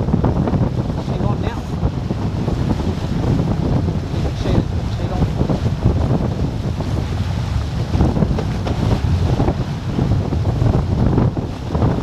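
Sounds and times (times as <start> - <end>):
water rushing along hulls: 0.0 - 12.0
wind buffeting microphone: 0.0 - 12.0.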